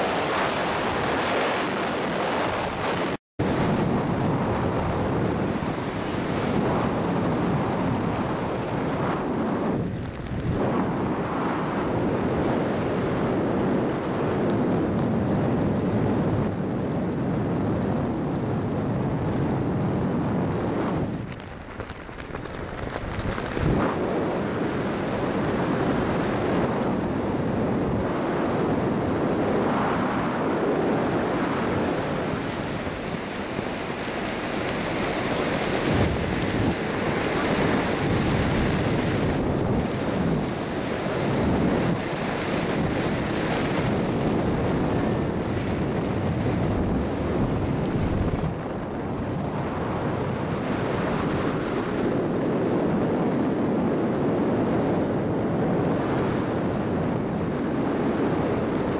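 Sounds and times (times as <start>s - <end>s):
wind rushing over microphone: 0.0s - 58.9s.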